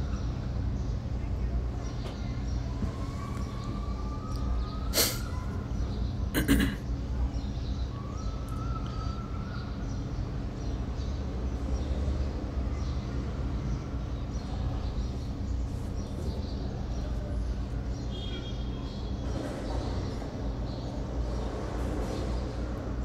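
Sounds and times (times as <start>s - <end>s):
low-pitched background hum: 0.0s - 23.0s.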